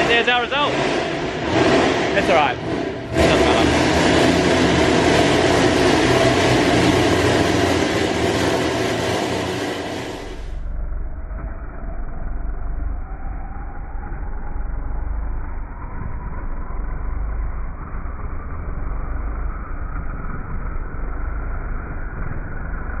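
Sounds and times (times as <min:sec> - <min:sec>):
car engine low rumble: 0:00.0 - 0:23.0
faint turbo whine: 0:00.0 - 0:23.0.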